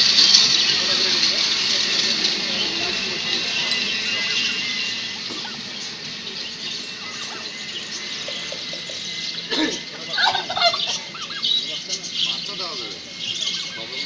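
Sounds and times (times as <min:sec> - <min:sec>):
turkeys calling: 0:00.0 - 0:14.0.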